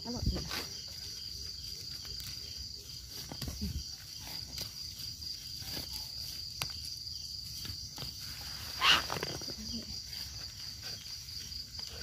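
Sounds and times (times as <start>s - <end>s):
high insect drone: 0.0s - 12.0s
rustles and light snaps: 1.8s - 12.0s.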